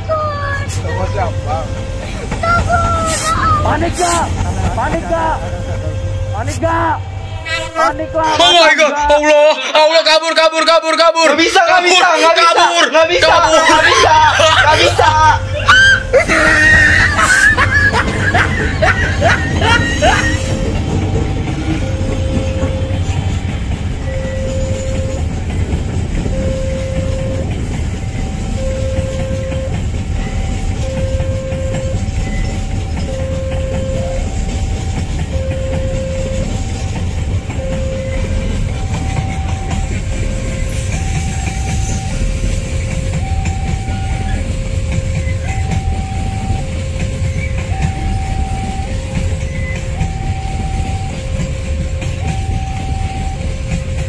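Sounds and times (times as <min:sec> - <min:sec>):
freight train rumbling past: 0:00.0 - 0:54.0
two-tone warning signal: 0:00.8 - 0:08.9, 0:13.2 - 0:54.0
wheels clacking over rails: 0:01.2 - 0:06.2, 0:13.3 - 0:54.0.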